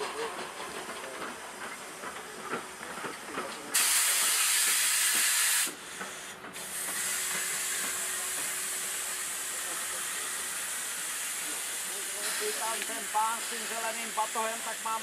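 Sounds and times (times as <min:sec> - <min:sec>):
steam locomotive venting steam: 0:00.0 - 0:15.0.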